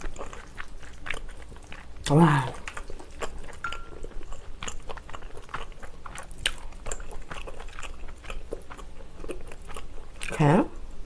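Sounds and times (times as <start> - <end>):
chewing with mouth clicks and crunches: 0.0 - 10.6.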